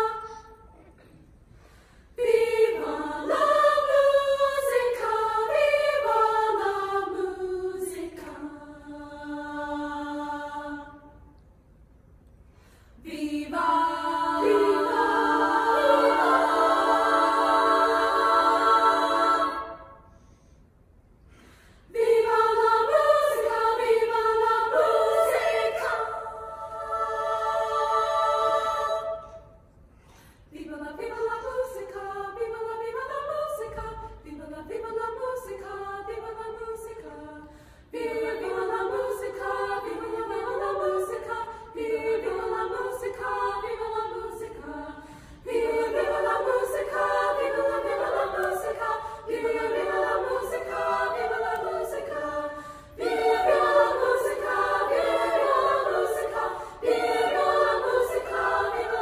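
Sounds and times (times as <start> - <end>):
girls' choir singing: 0.0 - 0.8, 2.2 - 11.2, 13.0 - 20.1, 21.9 - 29.7, 30.5 - 59.0.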